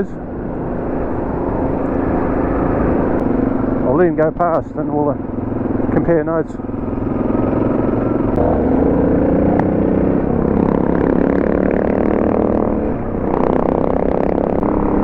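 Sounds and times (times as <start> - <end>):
motorcycle engine revving: 1.5 - 15.0.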